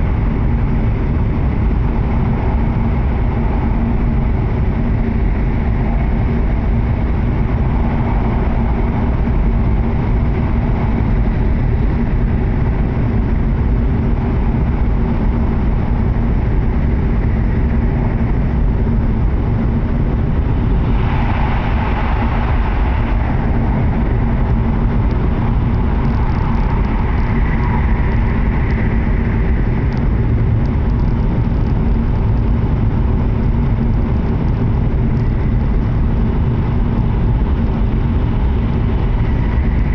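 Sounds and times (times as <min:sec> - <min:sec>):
train cabin rumble: 0:00.0 - 0:39.9.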